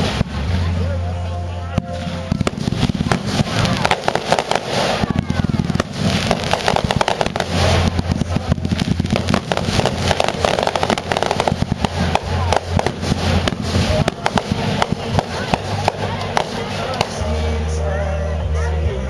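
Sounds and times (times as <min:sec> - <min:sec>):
fireworks whistling: 0:00.0 - 0:00.9, 0:01.8 - 0:17.4
fireworks bangs and crackles: 0:00.0 - 0:01.1, 0:01.7 - 0:17.7.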